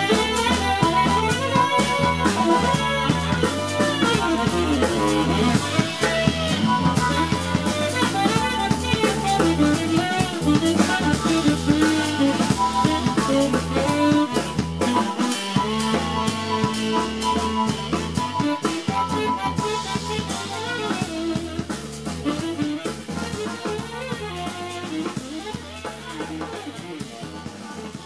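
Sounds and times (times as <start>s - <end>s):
drum kit beat: 0.0s - 28.0s
electric guitar: 0.0s - 28.0s
live rock band playing: 0.0s - 28.0s.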